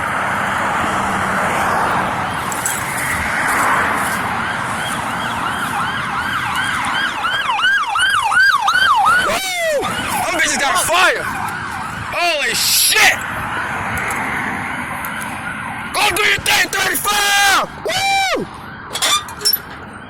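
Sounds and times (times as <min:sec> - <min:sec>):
fire engine siren yelping: 0:00.0 - 0:20.0.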